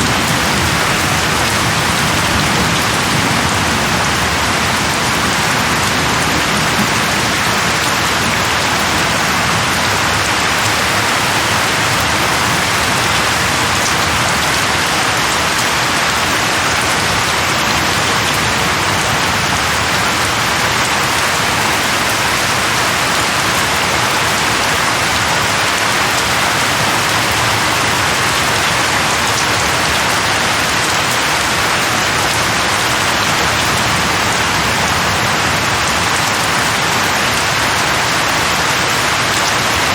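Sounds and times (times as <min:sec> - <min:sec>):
steady loud rain: 0:00.0 - 0:39.9.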